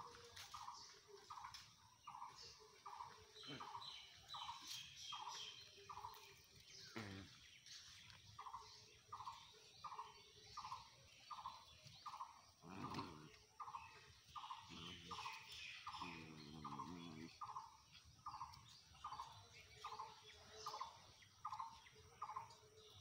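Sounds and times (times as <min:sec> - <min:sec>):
higher bird chirps: 0:02.1 - 0:22.6.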